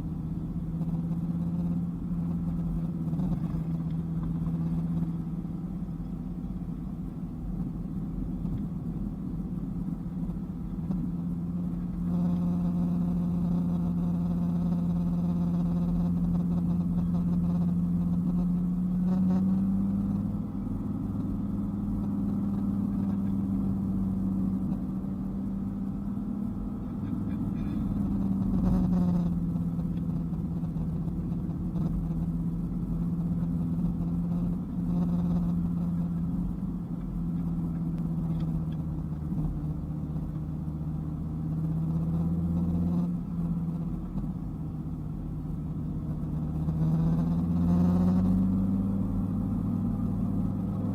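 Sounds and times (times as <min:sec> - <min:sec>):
car engine cruising: 0:00.0 - 0:50.9
road noise: 0:00.0 - 0:50.9.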